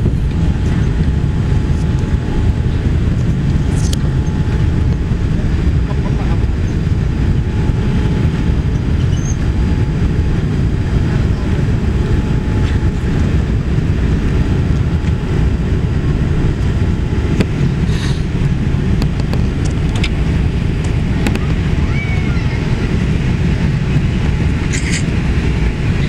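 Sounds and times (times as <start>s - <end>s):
jet engines rumbling in cabin: 0.0s - 26.0s
rushing airflow: 0.0s - 26.0s.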